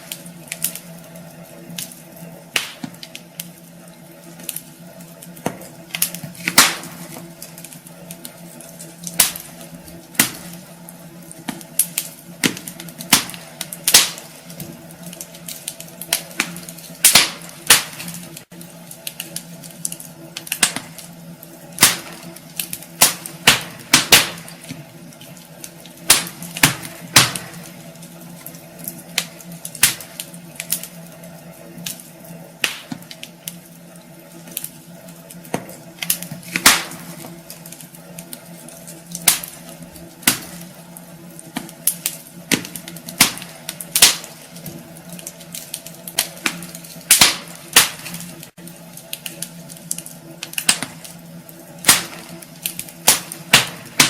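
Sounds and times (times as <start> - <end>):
logs crackling and popping: 0.0 - 54.0
steady low hum: 0.0 - 54.0.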